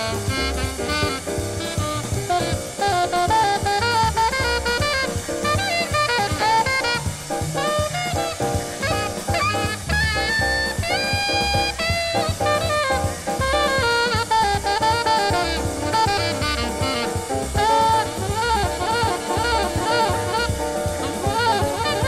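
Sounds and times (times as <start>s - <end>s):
drum kit steady beat: 0.0s - 22.0s
saxophone melody: 0.0s - 22.0s.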